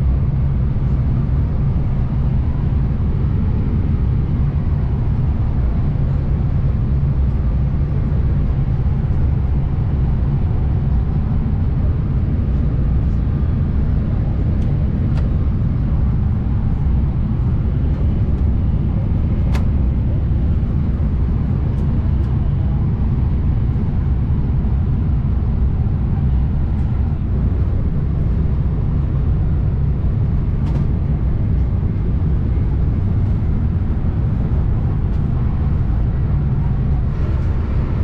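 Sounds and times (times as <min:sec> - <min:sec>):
train coach rumble: 0:00.0 - 0:38.0.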